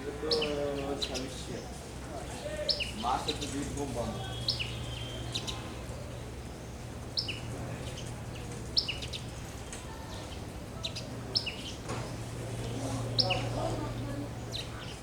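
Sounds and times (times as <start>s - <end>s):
sparrows chirping: 0.2s - 11.9s, 12.5s - 15.0s.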